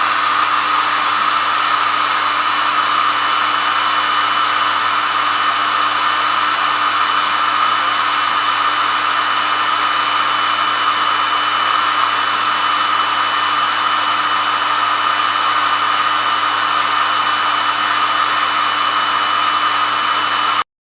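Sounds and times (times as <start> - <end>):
hair dryer running: 0.0 - 20.7.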